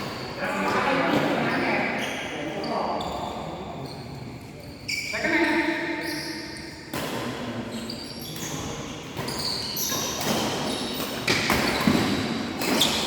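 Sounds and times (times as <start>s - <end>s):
shoes squeaking on floor: 0.1s - 7.0s, 7.7s - 13.0s.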